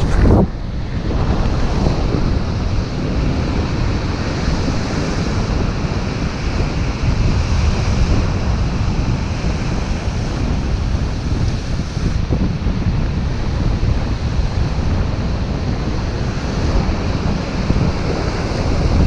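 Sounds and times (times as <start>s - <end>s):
surf washing up beach: 0.0s - 19.0s
wind buffeting microphone: 0.0s - 19.0s.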